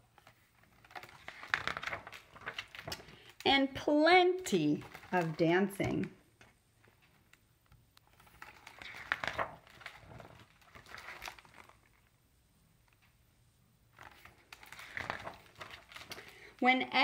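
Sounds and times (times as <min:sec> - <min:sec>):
book pages rustling: 0:00.1 - 0:03.7, 0:04.4 - 0:12.2, 0:13.9 - 0:16.6.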